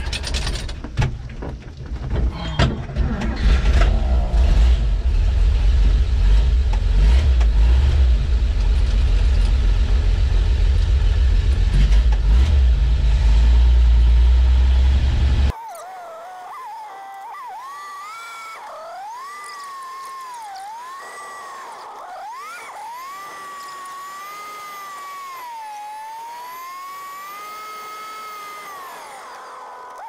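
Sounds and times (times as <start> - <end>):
truck engine drone: 2.3 - 15.6, 16.7 - 30.0.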